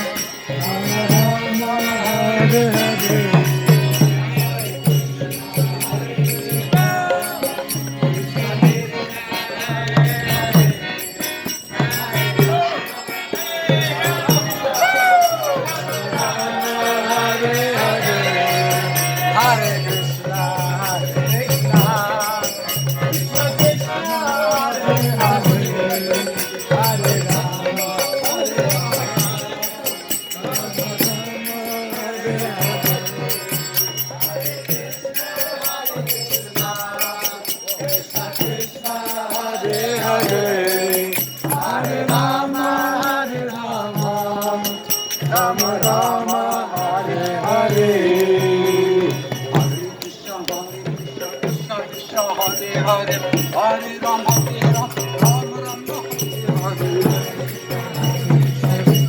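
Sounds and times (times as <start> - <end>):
jingling percussion beat: 0.0 - 59.0
voices singing a chant: 0.0 - 59.0.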